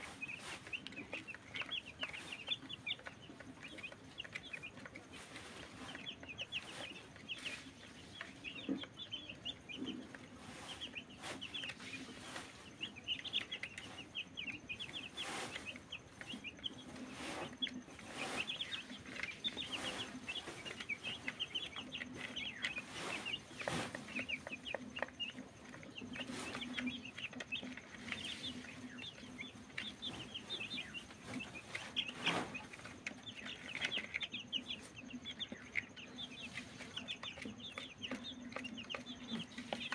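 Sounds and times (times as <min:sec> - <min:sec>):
chicks pecking at feed tray: 0:00.0 - 0:39.9
chicks peeping: 0:00.0 - 0:39.9.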